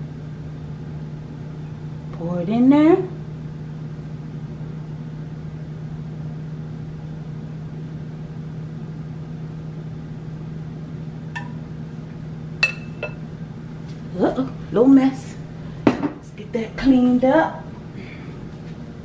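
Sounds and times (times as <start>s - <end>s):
air fryer fan hum: 0.0s - 19.0s.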